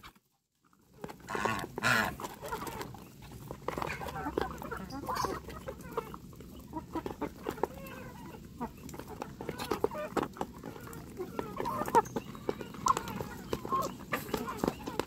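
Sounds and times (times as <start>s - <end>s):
bills tapping on feed and plastic: 0.0s - 15.0s
chickens clucking: 0.0s - 15.0s.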